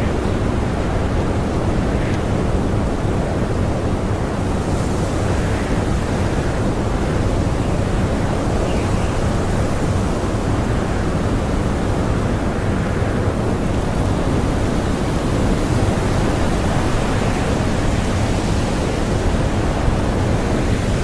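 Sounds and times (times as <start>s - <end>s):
blizzard wind blowing hard: 0.0s - 21.0s.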